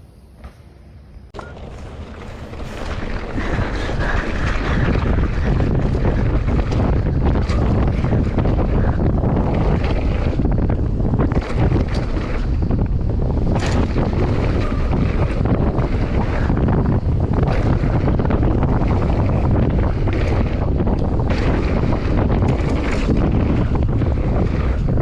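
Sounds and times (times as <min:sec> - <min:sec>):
bike rumble: 0:01.4 - 0:25.0
wind buffeting microphone: 0:01.4 - 0:25.0.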